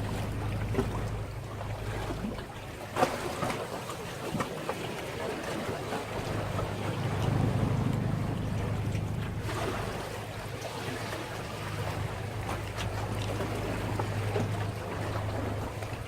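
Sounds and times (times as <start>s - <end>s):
boat engine low drone: 0.0s - 16.0s
sea waves washing against breakwater: 0.0s - 16.0s.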